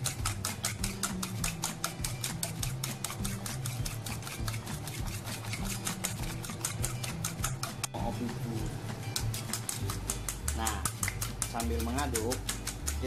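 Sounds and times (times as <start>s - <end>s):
metal spoon clinking in steel bowl: 0.0s - 7.8s, 9.1s - 13.0s.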